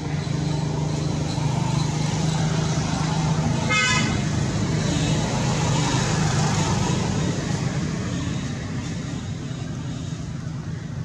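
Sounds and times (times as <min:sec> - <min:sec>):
motor vehicle engine running: 0:00.0 - 0:11.0.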